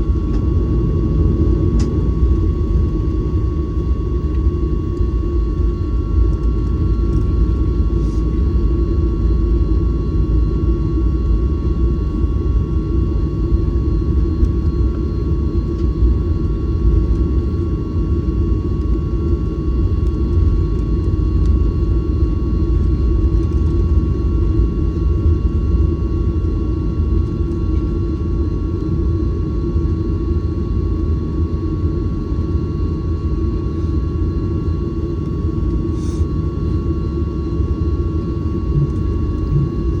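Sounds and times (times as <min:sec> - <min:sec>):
high engine whine: 0:00.0 - 0:40.0
jet engines rumbling in cabin: 0:00.0 - 0:40.0.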